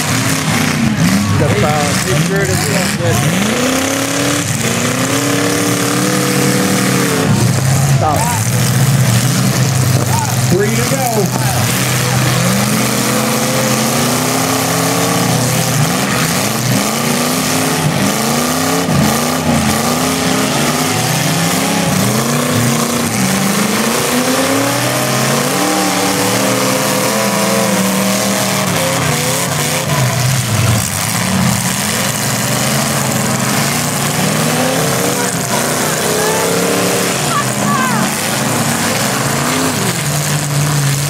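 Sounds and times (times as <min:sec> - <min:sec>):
car engines revving hard: 0:00.0 - 0:41.0.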